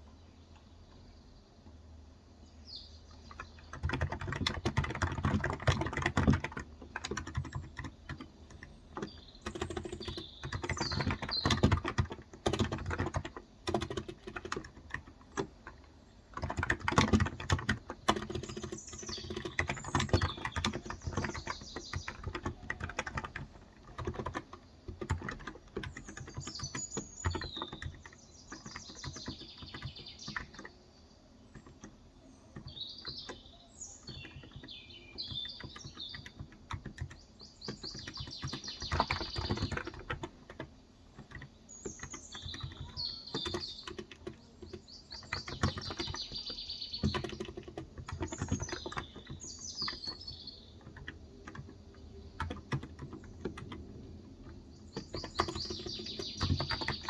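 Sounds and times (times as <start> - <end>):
birds chirping: 0.0 - 57.0
keyboard typing: 3.1 - 30.8, 31.4 - 57.0.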